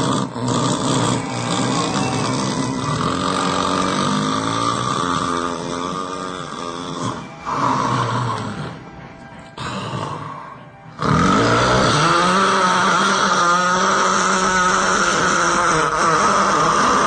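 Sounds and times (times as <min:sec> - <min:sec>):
person snoring loudly: 0:00.0 - 0:09.0, 0:09.6 - 0:17.0.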